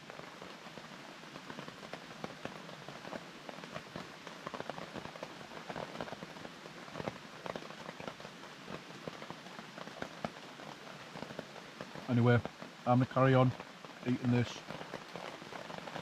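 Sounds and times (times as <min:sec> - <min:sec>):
sharp raindrops striking nearby: 0:00.0 - 0:16.0
steady rain falling: 0:00.0 - 0:16.0.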